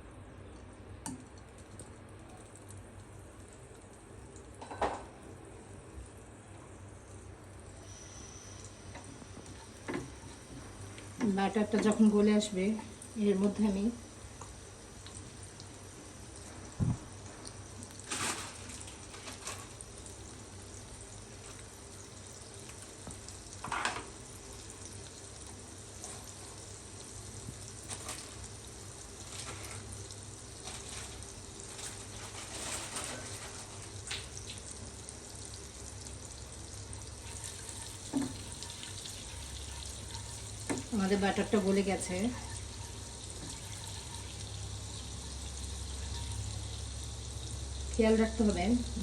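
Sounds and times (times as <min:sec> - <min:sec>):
butter sizzling in a pan: 0:02.4 - 0:49.0.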